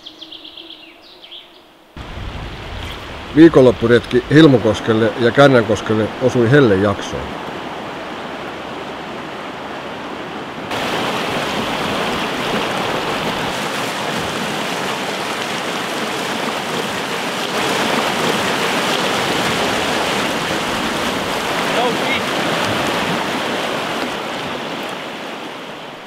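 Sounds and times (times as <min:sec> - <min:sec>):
river rapids rushing: 0:04.2 - 0:26.0.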